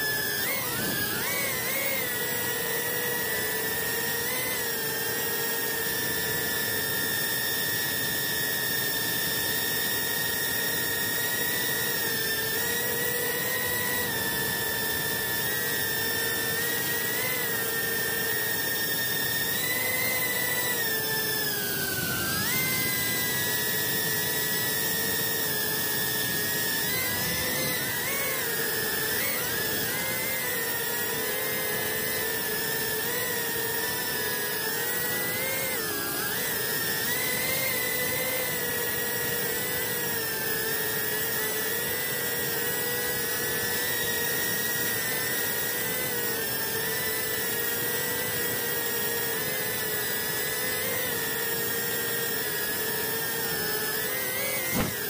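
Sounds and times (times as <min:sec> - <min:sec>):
drone motors and propellers whining: 0:00.0 - 0:55.0.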